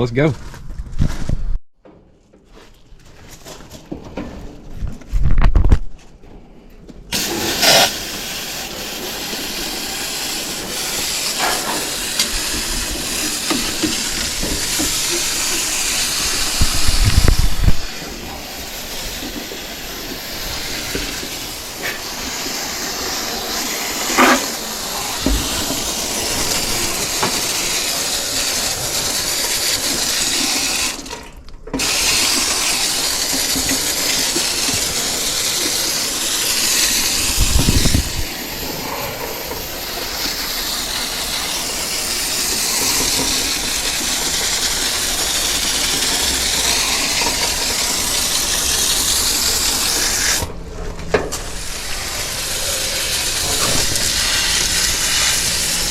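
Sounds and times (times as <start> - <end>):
hose spraying water on coil fins: 7.1 - 50.5, 51.3 - 55.9.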